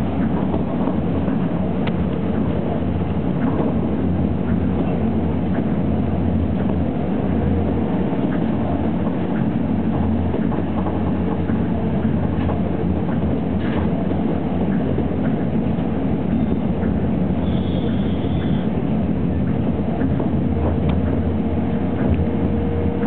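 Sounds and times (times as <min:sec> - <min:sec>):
monorail train rumbling: 0:00.0 - 0:23.0.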